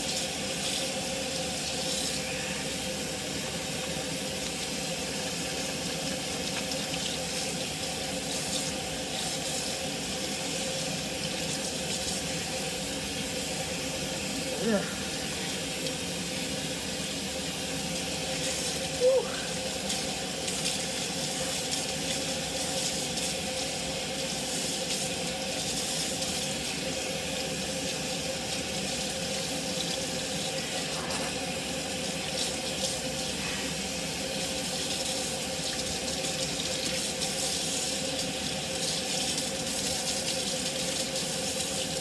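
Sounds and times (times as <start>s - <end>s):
faucet water splashing into sink: 0.0s - 42.0s.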